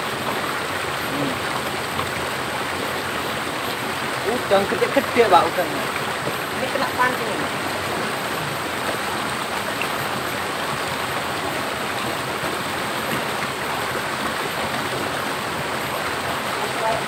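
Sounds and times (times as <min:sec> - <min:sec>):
water rushing over rock: 0:00.0 - 0:17.0.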